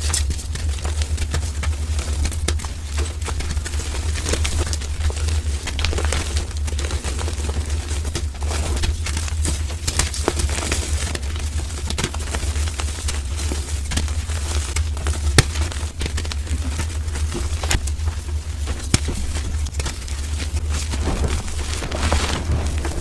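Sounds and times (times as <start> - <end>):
chalk crunching and crackling: 0.0 - 23.0
low hum: 0.0 - 23.0.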